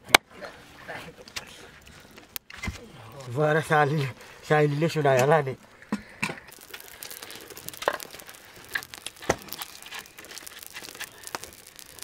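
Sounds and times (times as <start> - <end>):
light clicks and crinkling rustles: 0.4 - 12.0.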